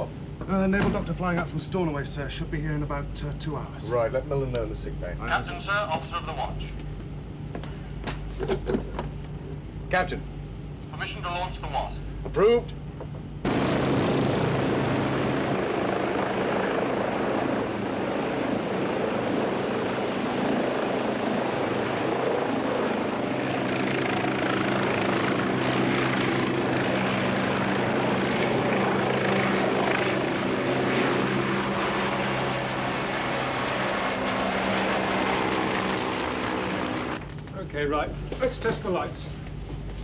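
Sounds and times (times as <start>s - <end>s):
helicopter turbine whine: 0.0s - 39.7s
helicopter engine and rotor hum: 0.0s - 39.8s.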